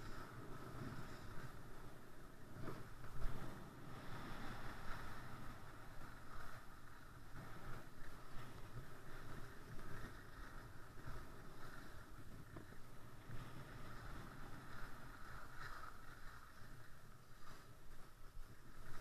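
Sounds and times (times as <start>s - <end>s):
skis sliding over snow: 0.0s - 19.0s.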